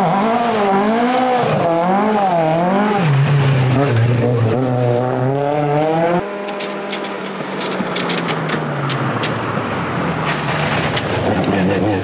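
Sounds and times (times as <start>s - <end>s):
racing car engine accelerating: 0.0s - 12.0s.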